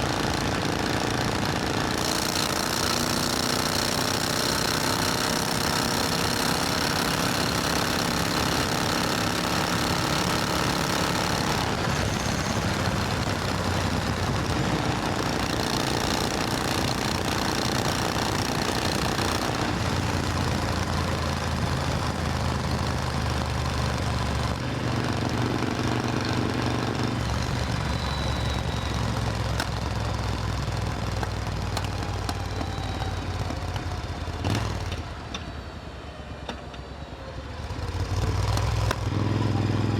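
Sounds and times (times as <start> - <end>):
motorcycle engine running: 0.0 - 35.6, 37.6 - 39.9
constant rushing noise: 0.0 - 39.9.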